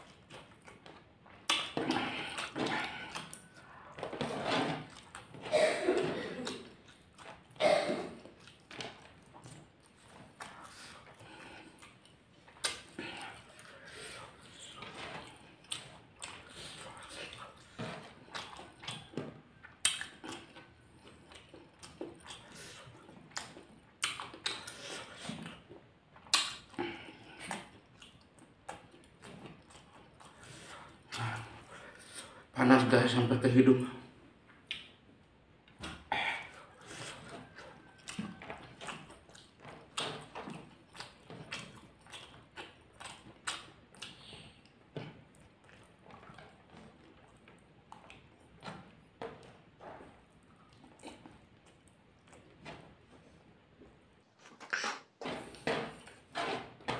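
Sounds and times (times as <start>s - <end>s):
man chewing and smacking lips: 0.0s - 32.6s, 34.2s - 56.9s.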